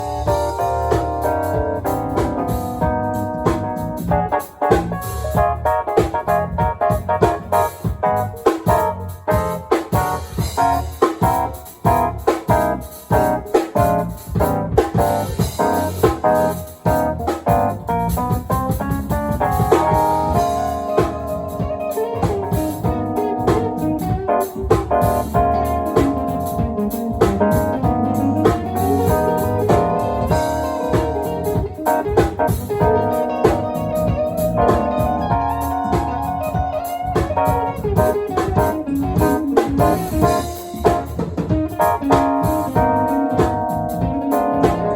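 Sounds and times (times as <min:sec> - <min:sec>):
jazz-funk band playing: 0:00.0 - 0:44.9
organ-like keyboard: 0:00.0 - 0:44.9.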